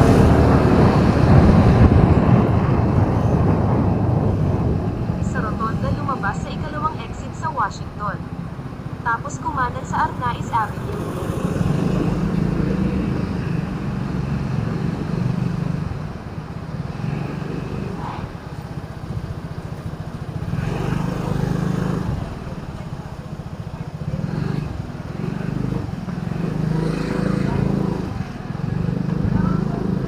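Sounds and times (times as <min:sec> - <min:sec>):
road noise: 0:00.0 - 0:30.0
vehicle engine running: 0:00.0 - 0:30.0.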